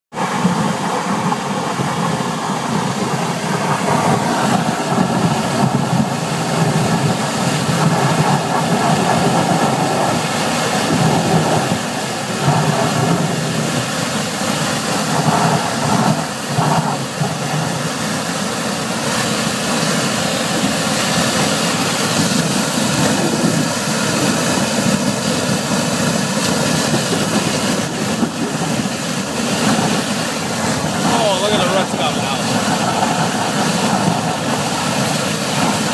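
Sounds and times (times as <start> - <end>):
sewer jetter machine running: 0.1 - 35.9
water gushing from pipe: 0.1 - 35.9.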